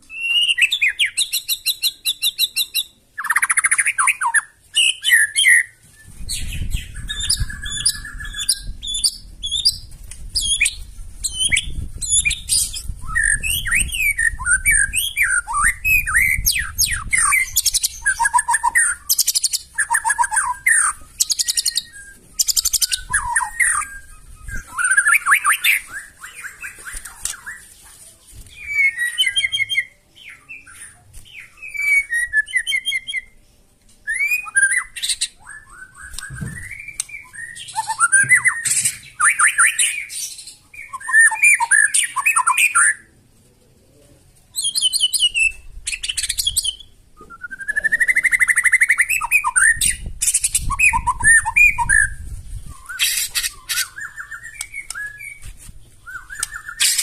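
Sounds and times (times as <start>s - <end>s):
songbird singing varied song: 0.0s - 27.8s, 28.4s - 43.1s, 44.5s - 57.0s.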